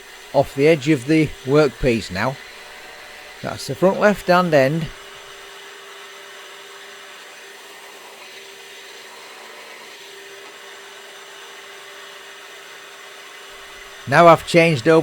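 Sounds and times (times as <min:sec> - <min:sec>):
drill press motor humming: 0:00.0 - 0:09.4, 0:10.0 - 0:15.0.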